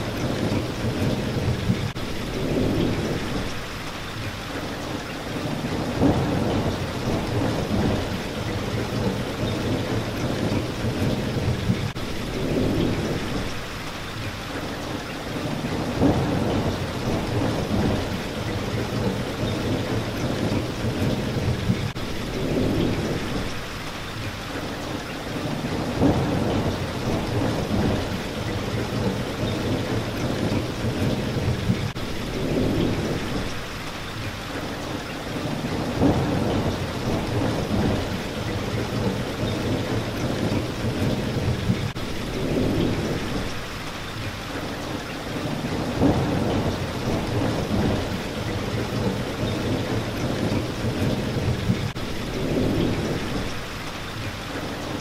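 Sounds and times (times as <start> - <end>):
rolling thunder rumbles: 0.0 - 3.8, 5.3 - 13.7, 15.3 - 23.8, 25.3 - 33.8, 35.3 - 43.8, 45.3 - 53.8
steady rain: 0.0 - 55.0.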